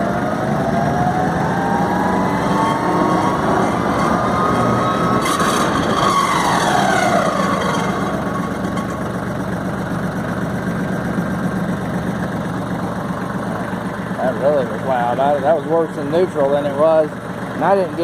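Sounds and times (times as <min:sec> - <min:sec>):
diesel tractor engine running: 0:00.0 - 0:18.0
high-pitched tinny drivetrain whine: 0:00.0 - 0:18.0.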